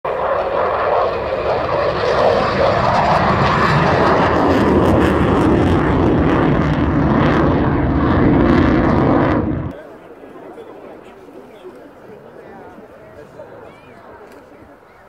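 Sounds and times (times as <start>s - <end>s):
jet aircraft flying overhead: 0.1s - 15.0s.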